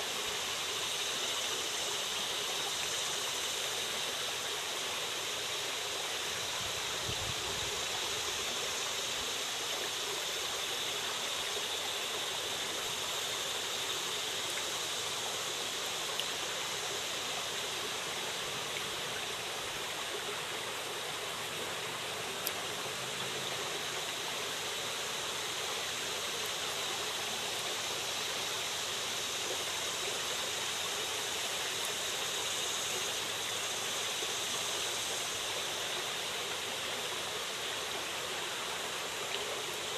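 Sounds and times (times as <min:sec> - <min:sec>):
creek water running over rock: 0:00.0 - 0:39.9.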